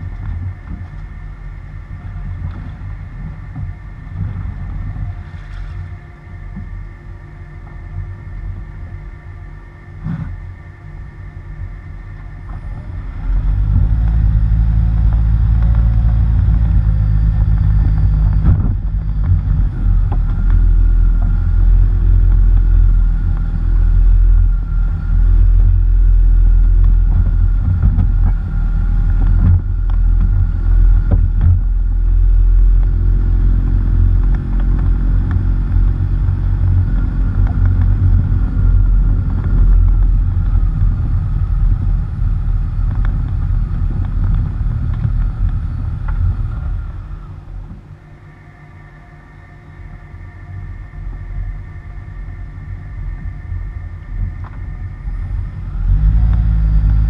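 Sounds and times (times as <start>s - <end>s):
vehicle rumbling over rough road: 0.0s - 57.0s.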